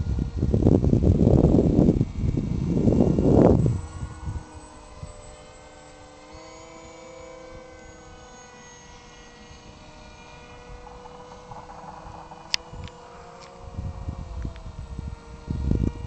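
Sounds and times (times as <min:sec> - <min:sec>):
wind buffeting microphone: 0:00.0 - 0:08.2, 0:08.9 - 0:16.0
model airplane motor whine: 0:00.0 - 0:16.0.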